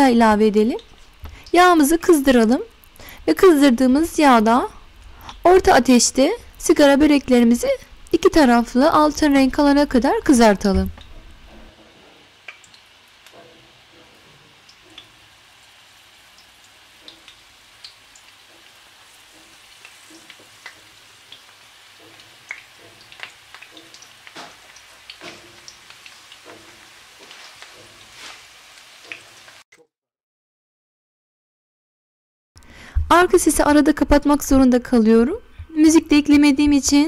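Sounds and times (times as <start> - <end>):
pastries frying in oil: 0.0 - 29.7.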